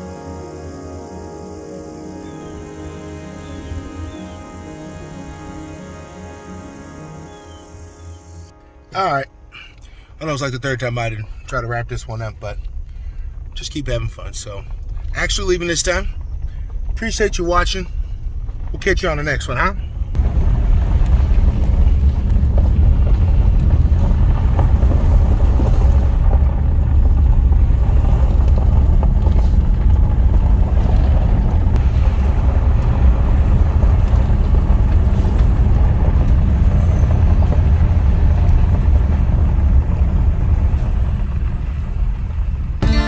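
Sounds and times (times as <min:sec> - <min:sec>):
road noise: 0:00.0 - 0:43.0
vehicle engine rumble: 0:00.0 - 0:43.0.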